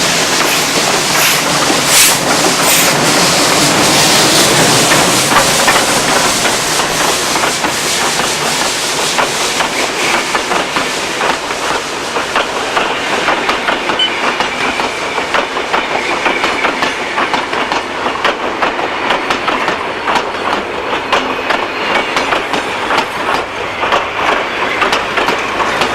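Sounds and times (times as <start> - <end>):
steam train rushing hiss: 0.0 - 25.9
wheels clicking over rail joints: 4.6 - 25.9.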